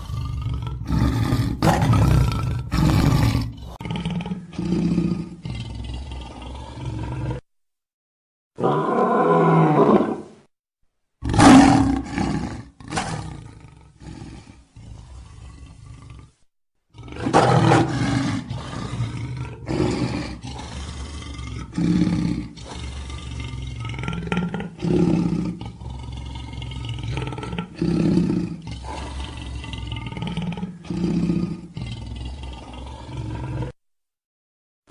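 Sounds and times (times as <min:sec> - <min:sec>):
lion roaring and grunting: 0:00.0 - 0:07.4, 0:08.6 - 0:10.3, 0:11.2 - 0:33.8.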